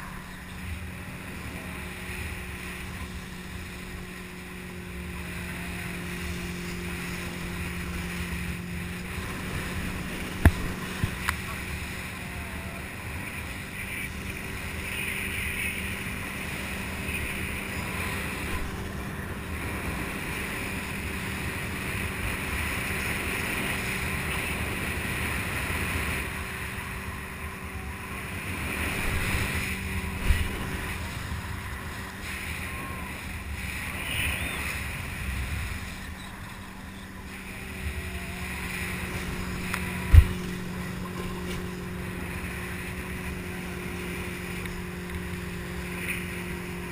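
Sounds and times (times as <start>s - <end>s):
motorboat engine running: 0.0s - 46.9s
water rushing: 0.0s - 46.9s
wind buffeting microphone: 0.0s - 46.9s.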